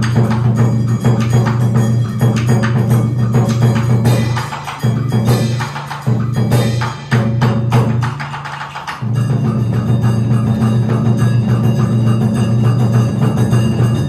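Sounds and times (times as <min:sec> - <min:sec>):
drumming: 0:00.0 - 0:14.0
wood block strikes: 0:00.0 - 0:14.0.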